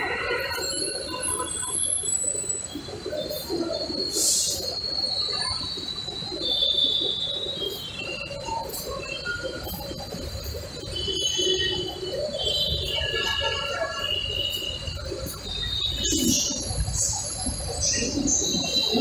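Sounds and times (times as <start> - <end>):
station background noise: 0.0 - 19.0.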